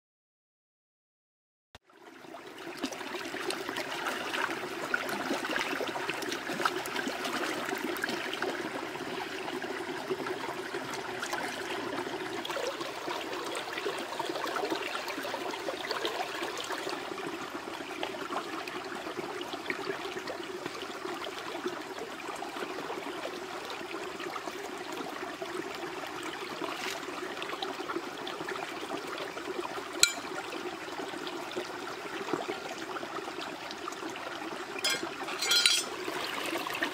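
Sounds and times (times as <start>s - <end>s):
stream flowing over stones: 1.9s - 36.9s.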